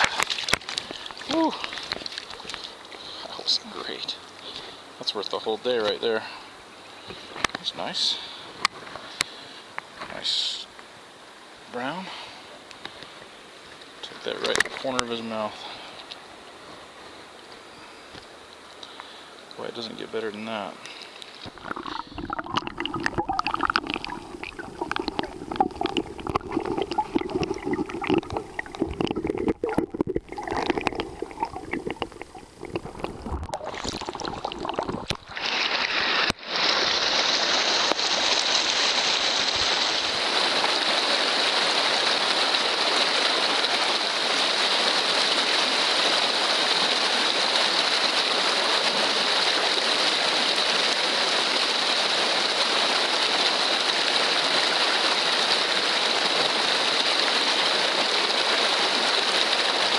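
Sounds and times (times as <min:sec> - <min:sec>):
underwater river gurgling: 0:00.0 - 0:10.0, 0:11.5 - 0:59.9
shallow water rushing: 0:00.0 - 0:10.4, 0:11.5 - 0:59.9.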